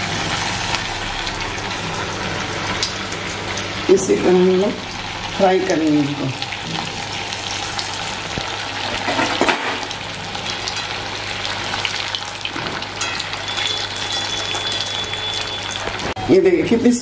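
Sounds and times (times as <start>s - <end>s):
patties sizzling in hot oil: 0.0s - 16.2s.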